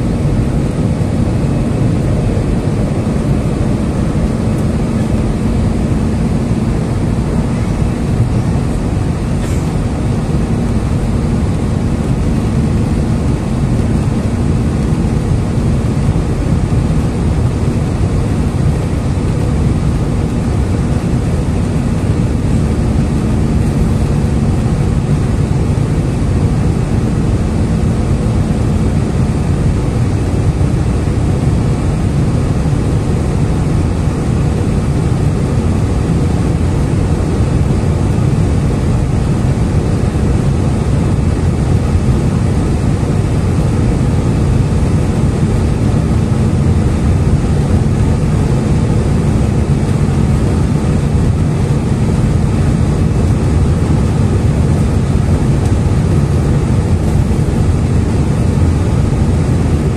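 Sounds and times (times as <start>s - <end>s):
jet engine roar in cabin: 0.0s - 59.9s.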